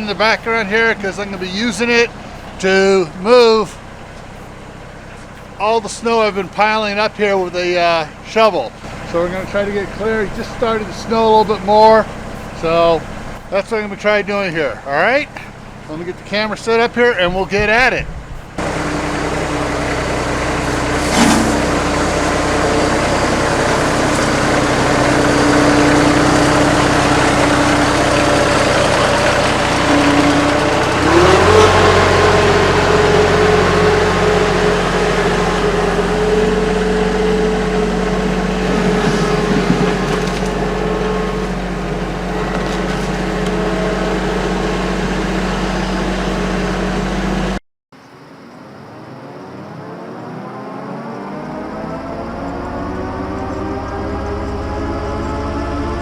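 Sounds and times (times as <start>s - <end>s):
tractor diesel engine running: 0.0s - 47.6s, 52.4s - 56.0s.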